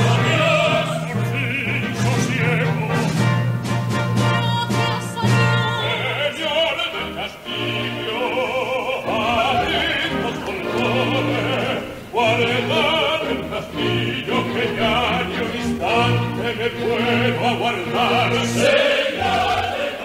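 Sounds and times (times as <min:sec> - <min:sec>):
operatic singing: 0:00.0 - 0:20.0
orchestra playing: 0:00.0 - 0:20.0.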